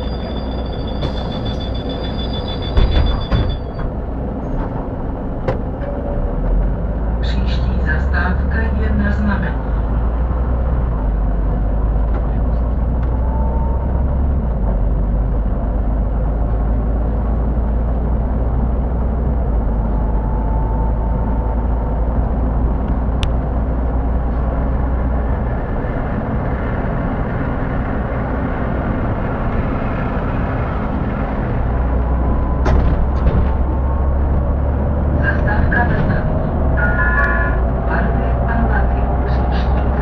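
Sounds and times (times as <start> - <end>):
bus engine and road rumble: 0.0 - 40.0.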